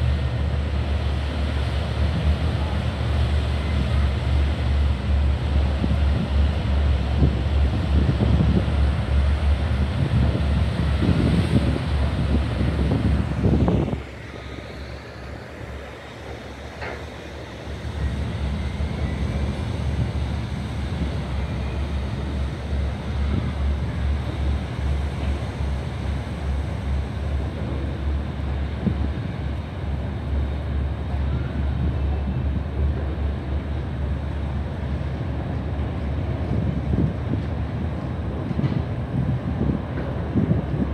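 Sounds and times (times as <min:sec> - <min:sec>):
ferry engines rumbling: 0:00.0 - 0:40.9
wind buffeting microphone: 0:00.0 - 0:40.9.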